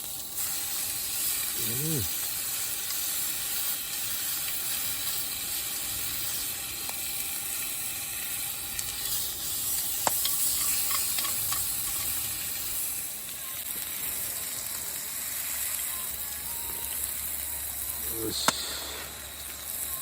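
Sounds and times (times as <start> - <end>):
sizzling hiss: 0.0 - 20.0.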